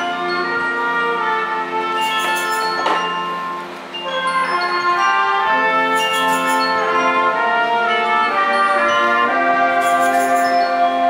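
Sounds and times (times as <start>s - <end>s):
percussion ringing: 0.0s - 11.0s
wind band playing held chords: 0.0s - 11.0s.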